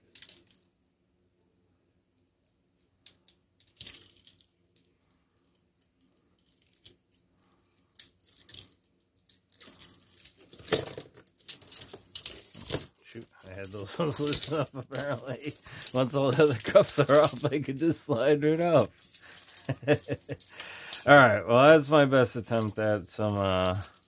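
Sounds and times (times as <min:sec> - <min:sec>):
handcuff chains clinking and jangling: 0:03.1 - 0:24.0.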